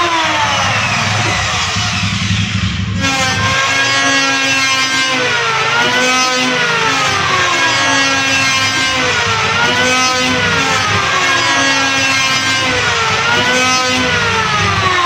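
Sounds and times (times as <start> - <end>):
electric wood planer whine: 0.0 - 15.0.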